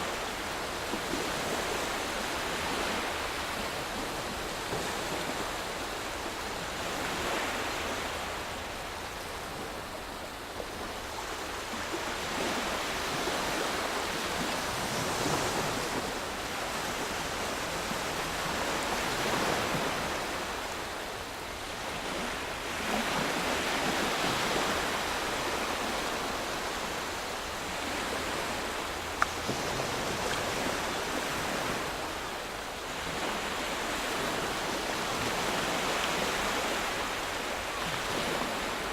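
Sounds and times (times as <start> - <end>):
waves washing on sandy shore: 0.0 - 38.9.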